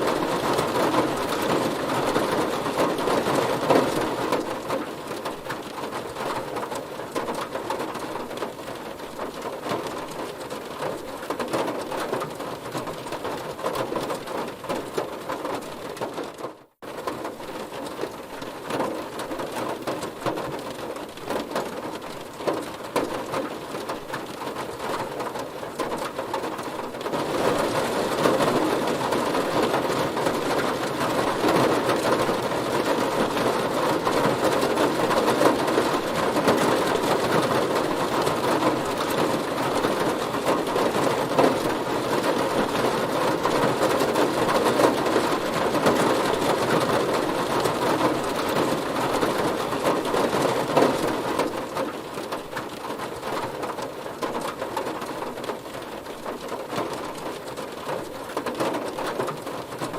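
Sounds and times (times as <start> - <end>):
heavy rain hitting a car: 0.0 - 59.9.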